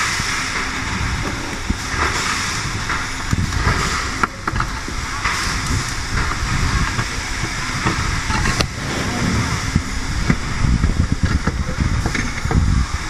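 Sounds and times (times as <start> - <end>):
workshop machinery rumble: 0.7 - 12.7.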